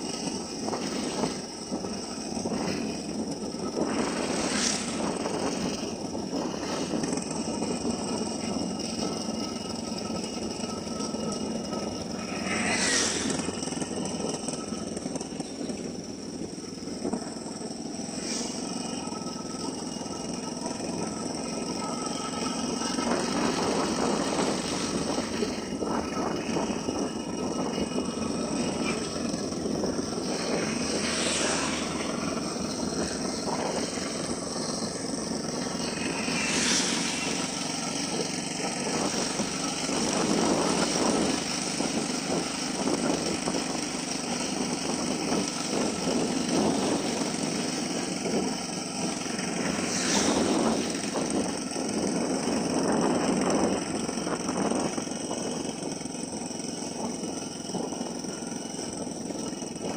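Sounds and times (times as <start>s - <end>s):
motorcycle engine and road noise: 0.0s - 59.9s.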